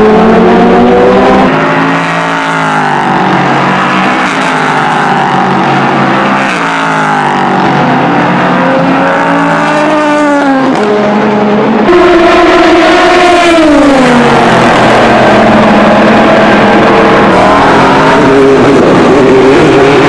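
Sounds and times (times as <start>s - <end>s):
racing car engines at high revs: 0.0s - 20.0s.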